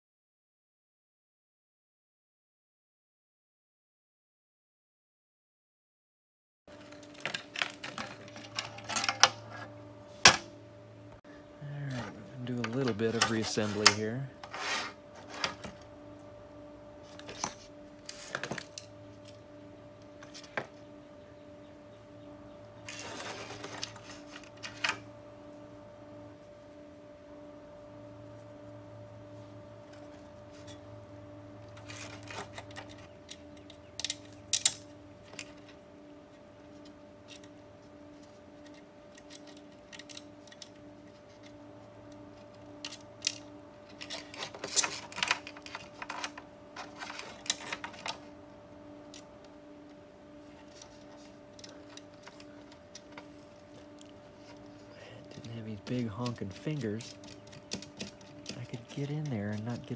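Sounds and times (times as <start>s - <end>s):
faint hum with pulsing tone: 6.7s - 59.9s.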